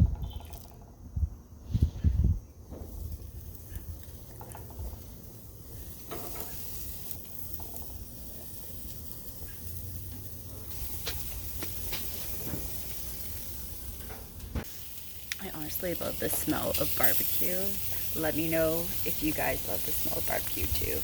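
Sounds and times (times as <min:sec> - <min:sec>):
food sizzling on a grill: 0:02.8 - 0:21.0.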